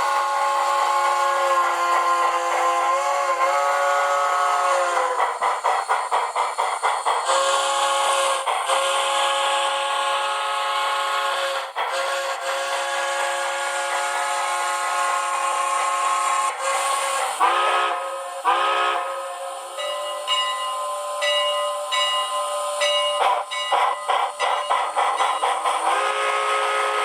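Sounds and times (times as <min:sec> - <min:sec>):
model steam whistle chord: 0:00.0 - 0:05.2, 0:07.3 - 0:27.0
steam chuff: 0:00.0 - 0:27.0.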